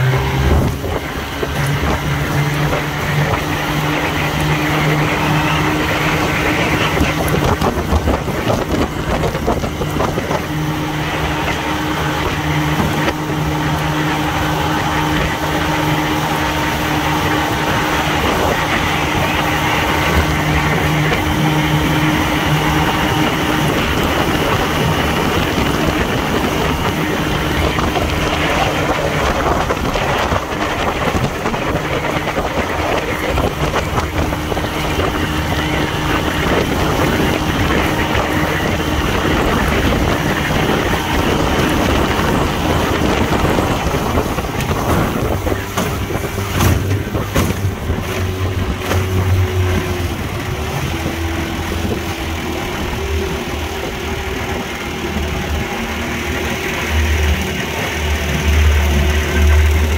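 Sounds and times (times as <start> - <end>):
outboard motor running: 0.0 - 59.9
water rushing along hull: 0.0 - 59.9
wind buffeting microphone: 0.0 - 59.9.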